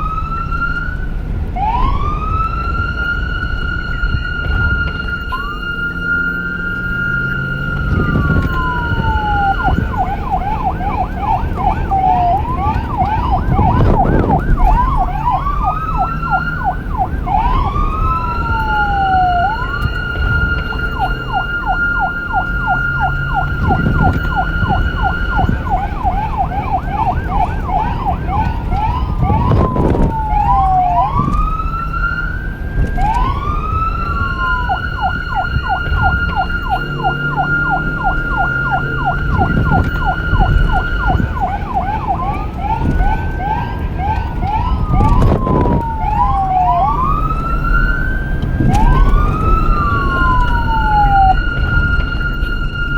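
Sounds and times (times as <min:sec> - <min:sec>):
police siren wailing and yelping: 0:00.0 - 0:52.9
vehicle rumble: 0:00.0 - 0:52.9.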